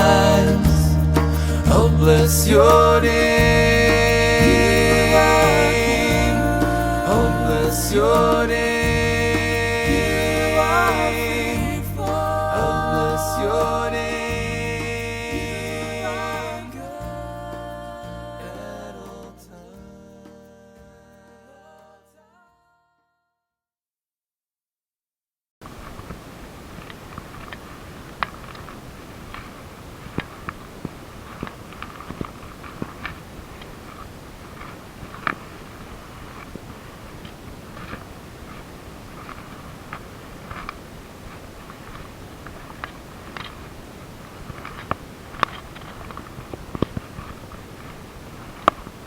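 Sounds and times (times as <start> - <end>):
steady hiss: 0.0 - 20.9, 25.6 - 49.0.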